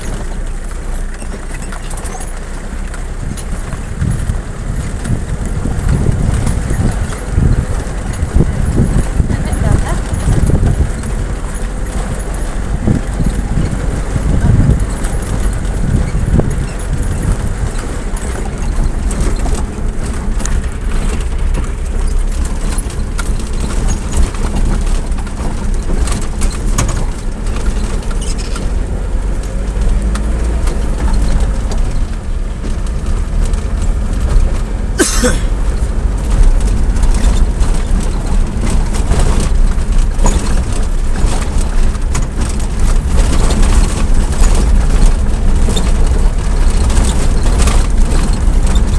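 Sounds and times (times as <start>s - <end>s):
light rattling: 0.0s - 48.9s
vehicle running with low rumble: 0.0s - 48.9s.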